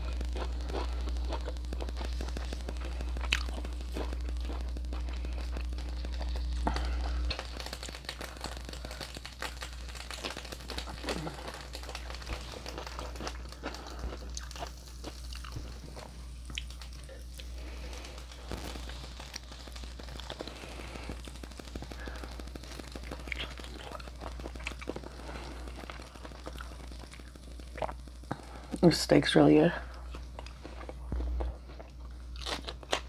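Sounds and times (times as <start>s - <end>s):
close chewing and mouth sounds: 0.0s - 28.9s, 29.9s - 33.0s
low hum: 0.0s - 33.0s.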